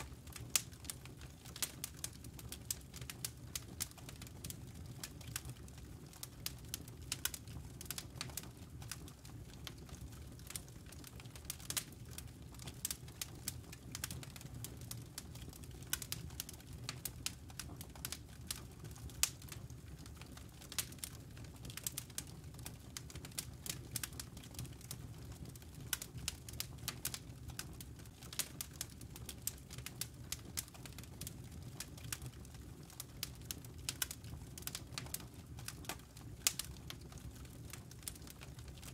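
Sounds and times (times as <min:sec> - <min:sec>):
fire crackling and popping: 0:00.0 - 0:38.9
low rumble of fire: 0:00.0 - 0:38.9.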